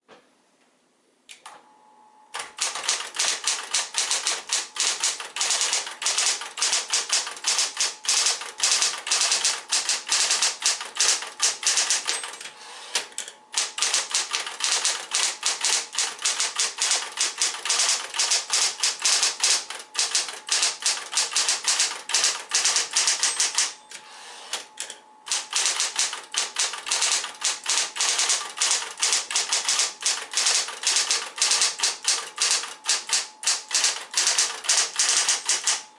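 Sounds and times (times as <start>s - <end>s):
typewriter motor hum: 2.3s - 35.9s
electric typewriter keystrokes: 2.4s - 23.8s, 24.5s - 35.9s.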